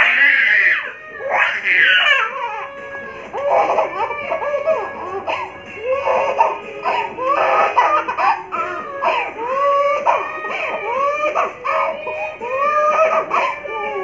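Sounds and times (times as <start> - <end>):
baby crying: 0.0 - 14.0.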